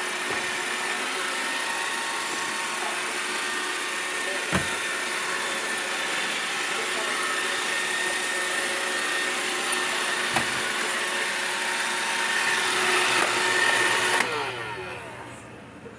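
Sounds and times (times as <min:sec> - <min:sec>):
robot vacuum whirring: 0:00.0 - 0:15.5.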